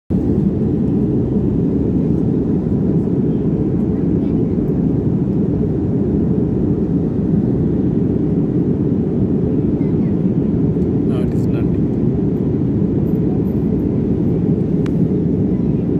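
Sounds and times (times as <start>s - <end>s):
jet airliner cabin roar: 0.1s - 15.9s.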